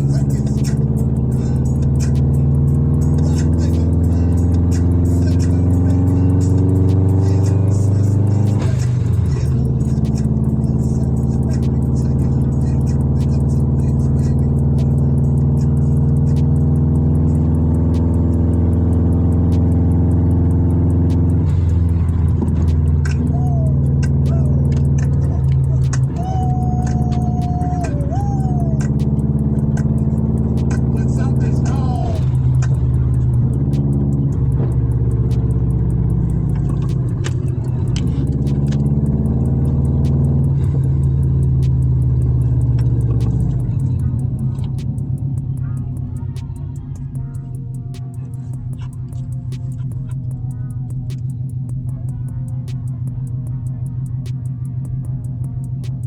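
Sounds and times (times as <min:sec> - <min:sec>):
car engine revving while driving: 0:00.0 - 0:56.0.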